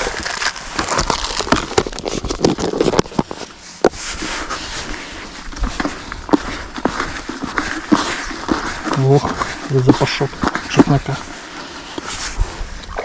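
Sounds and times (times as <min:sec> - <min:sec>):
plastic packaging rustling and crinkling: 0:00.0 - 0:13.0.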